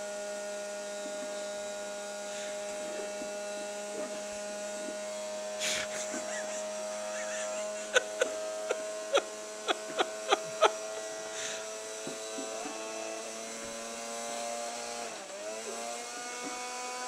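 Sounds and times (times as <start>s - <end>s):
buzzy electrical hum: 0.0s - 15.2s.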